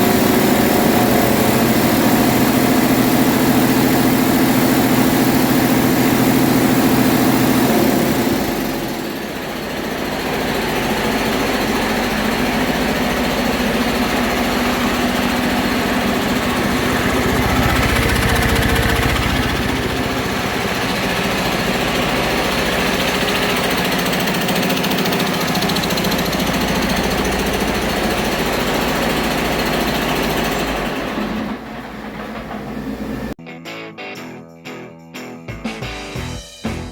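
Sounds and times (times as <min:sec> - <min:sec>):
truck diesel engine running: 0:00.0 - 0:33.4.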